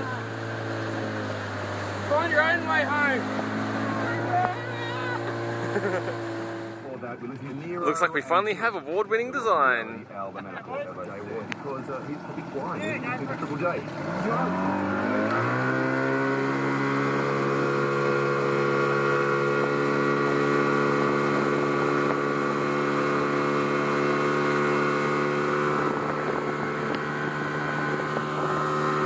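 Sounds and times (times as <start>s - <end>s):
outboard motor at high throttle: 0.0s - 29.0s.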